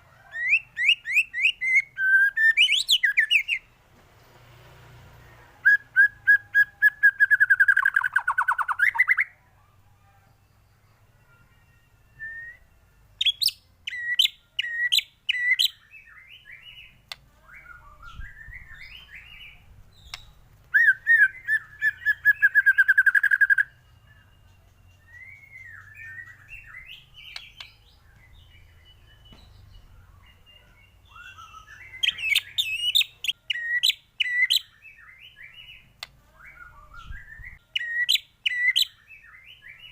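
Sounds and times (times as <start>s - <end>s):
songbird singing with trills: 0.2s - 3.8s, 5.2s - 39.9s.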